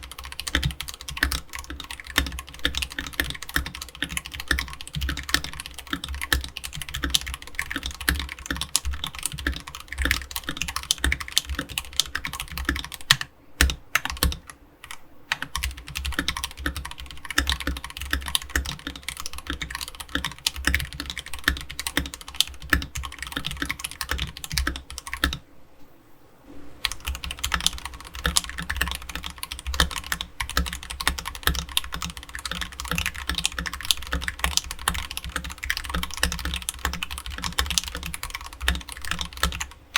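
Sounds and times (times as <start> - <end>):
mechanical keyboard typing: 0.0 - 25.4, 26.8 - 39.9.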